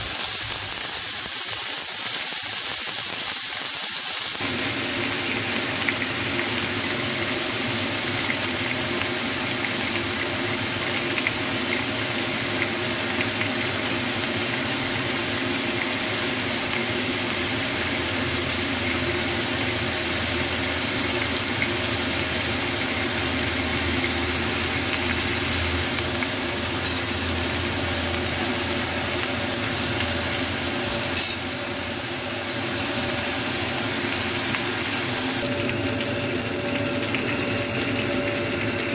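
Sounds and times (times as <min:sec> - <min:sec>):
meat sizzling in a frying pan: 0:00.0 - 0:38.9
steady mechanical hum: 0:04.4 - 0:38.9.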